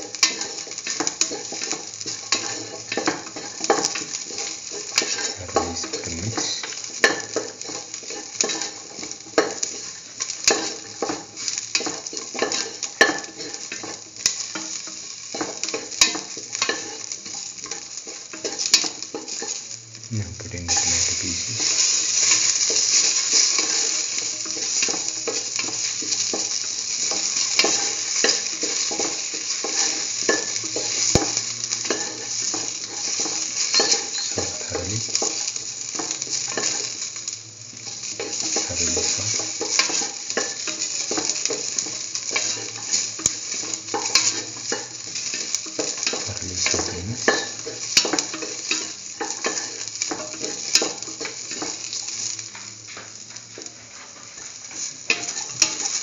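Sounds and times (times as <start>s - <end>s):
oil sizzling in a pan: 0.0s - 56.0s.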